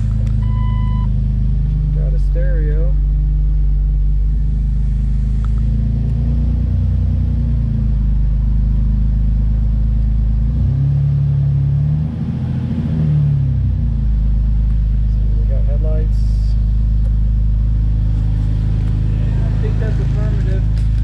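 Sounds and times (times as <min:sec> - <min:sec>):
car engine idling: 0:00.0 - 0:12.4, 0:13.2 - 0:21.0.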